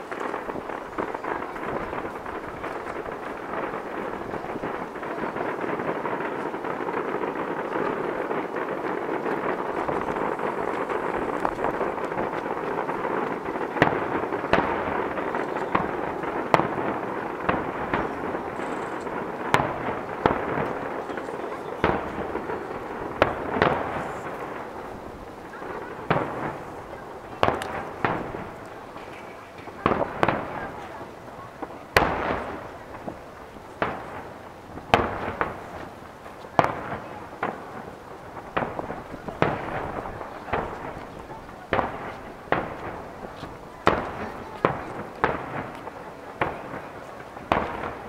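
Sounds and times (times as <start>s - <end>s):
firework shells bursting: 0.0s - 48.0s
steady background noise: 0.0s - 48.0s.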